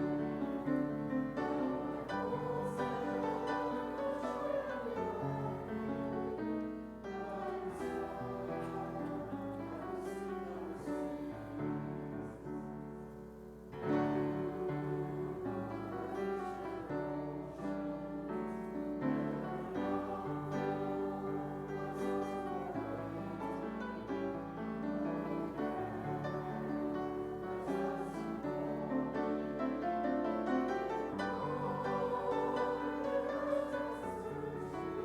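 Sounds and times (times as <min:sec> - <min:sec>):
church music on piano: 0:00.0 - 0:35.0.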